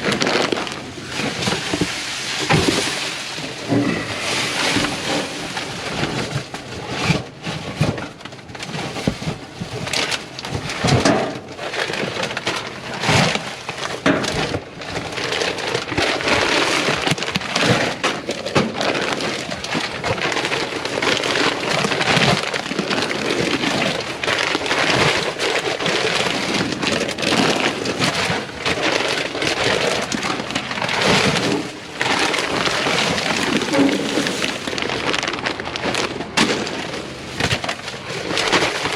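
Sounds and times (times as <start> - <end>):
plastic bags rustling and crinkling: 0.0 - 38.9.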